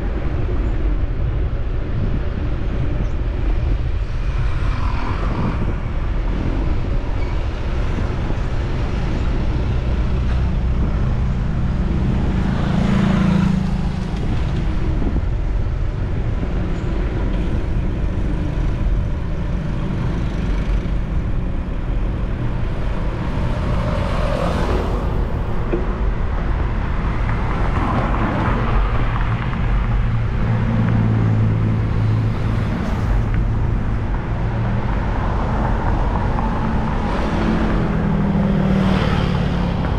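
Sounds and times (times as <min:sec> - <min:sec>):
low rumble of road traffic: 0:00.0 - 0:39.9
motor vehicles passing close: 0:02.0 - 0:39.9.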